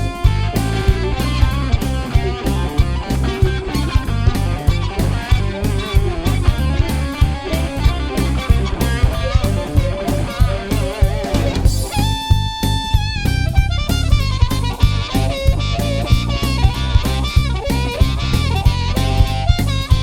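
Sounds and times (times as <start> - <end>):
drum kit beat: 0.0 - 20.0
guitar-led band music: 0.0 - 20.0.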